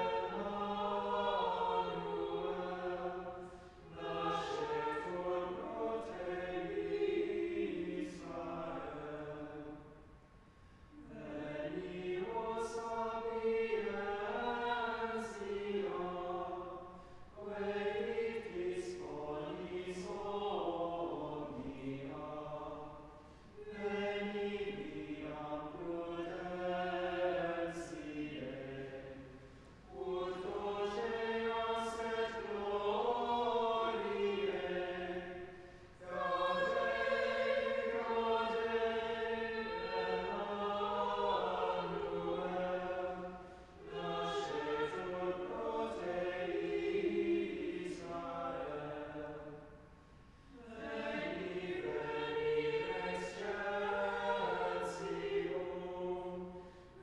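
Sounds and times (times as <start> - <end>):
choir singing: 0.0 - 10.0, 10.9 - 49.8, 50.5 - 57.0.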